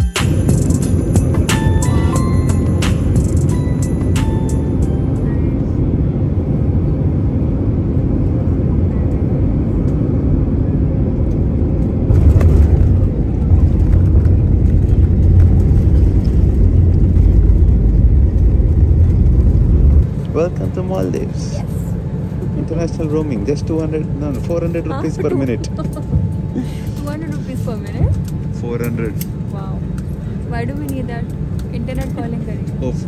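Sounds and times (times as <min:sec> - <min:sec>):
airliner cabin rumble: 0:00.0 - 0:33.0
jet engines reverse thrust: 0:00.0 - 0:33.0.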